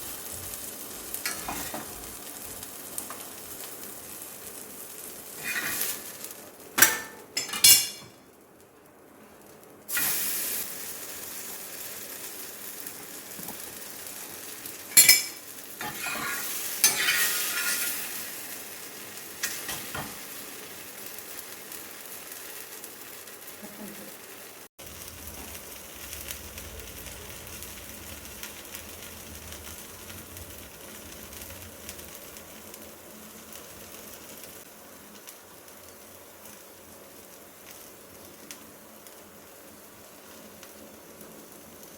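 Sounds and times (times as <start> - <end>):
flatbread sizzling on a griddle: 0.0 - 41.9.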